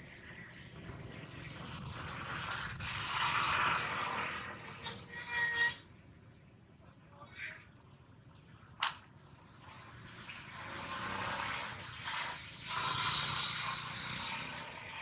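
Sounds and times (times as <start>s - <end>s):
steady noise haze: 0.0s - 13.9s.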